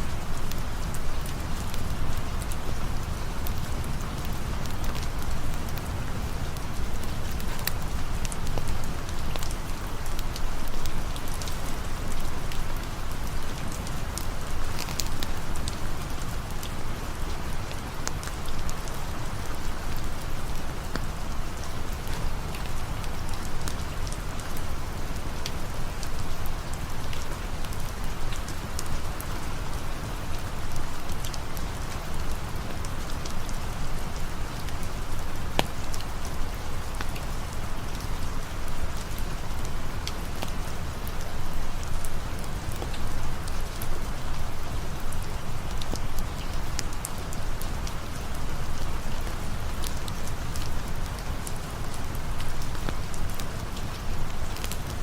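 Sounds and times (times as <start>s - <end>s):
steady rain falling: 0.0s - 55.0s
campfire crackling: 0.1s - 55.0s.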